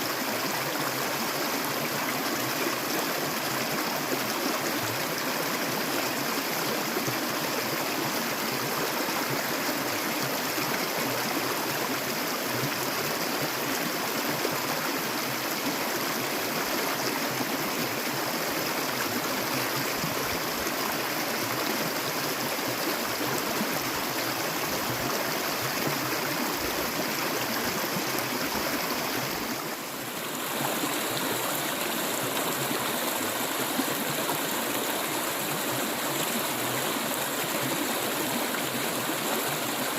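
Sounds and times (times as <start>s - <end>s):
stream water flowing and gurgling: 0.0s - 39.9s.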